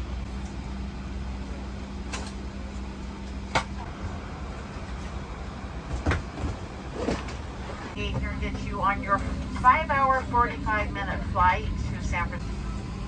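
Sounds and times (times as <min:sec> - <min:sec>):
low hum of cabin air: 0:00.0 - 0:13.0.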